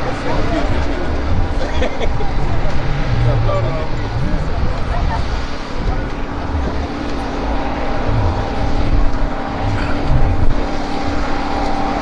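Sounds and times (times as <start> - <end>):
engine drone: 0.0 - 12.0
wind rumble on microphone: 0.0 - 12.0.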